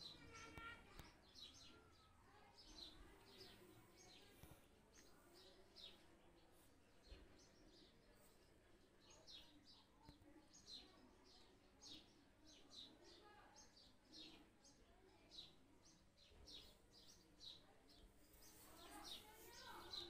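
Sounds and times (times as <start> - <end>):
faint birds chirping: 0.0 - 20.0.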